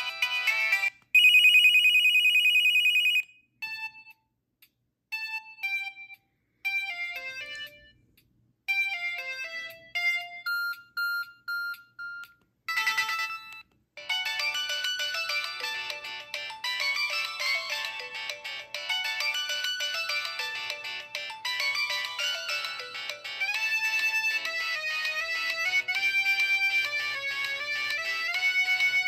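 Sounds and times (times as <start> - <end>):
phone ringtones playing: 0.0 - 4.2, 8.7 - 29.0.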